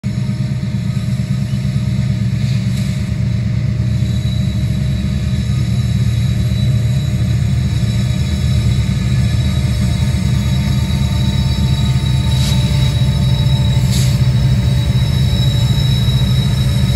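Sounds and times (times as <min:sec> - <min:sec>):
diesel locomotive rumble: 0:00.0 - 0:16.9.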